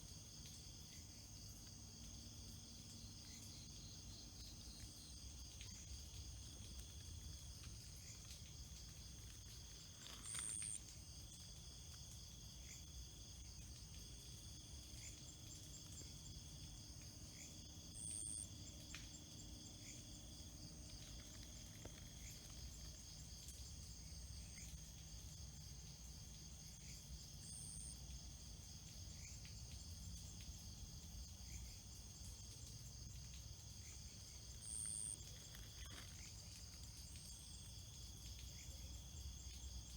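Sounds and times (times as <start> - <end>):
insects trilling: 0.1 - 39.9.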